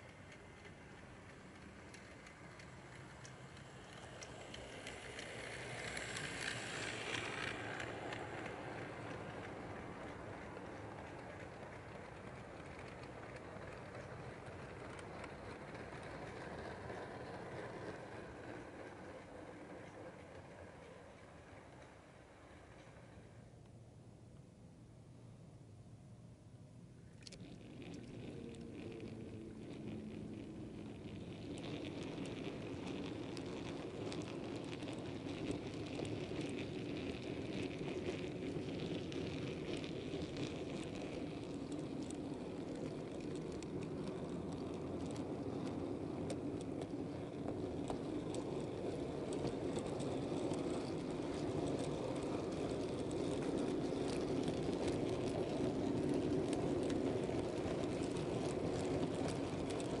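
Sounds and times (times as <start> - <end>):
model train wheels rumbling: 0.0 - 24.6, 26.3 - 60.0.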